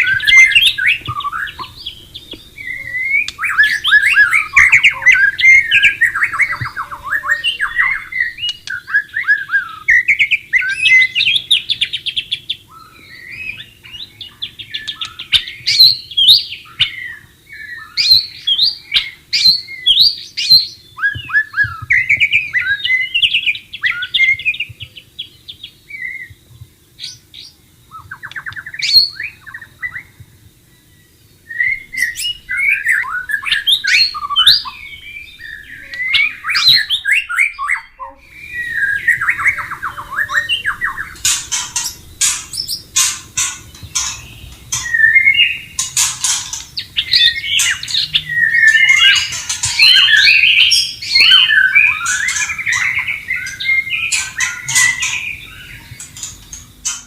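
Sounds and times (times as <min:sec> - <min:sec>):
bird singing whistled phrases: 0:00.0 - 0:26.4, 0:30.8 - 0:45.8, 0:46.8 - 0:56.0.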